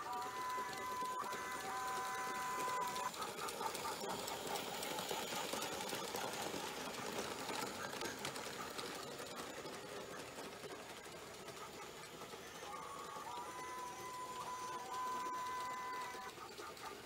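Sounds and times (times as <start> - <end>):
small electric motor whine: 0.0 - 17.0
toy train wheels rattling on track: 0.0 - 17.0.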